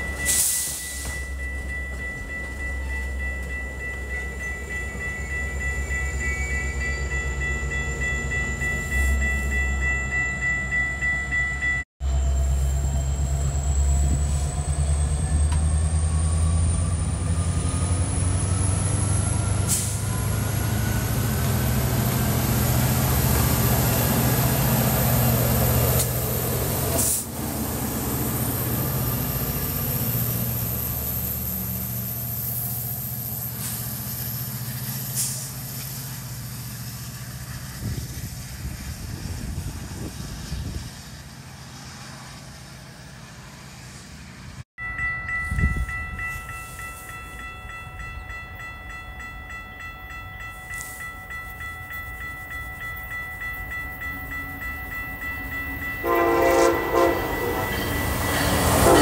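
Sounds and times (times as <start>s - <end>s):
diesel locomotive engine under load: 0.0s - 59.0s
train cars rolling past: 0.0s - 59.0s.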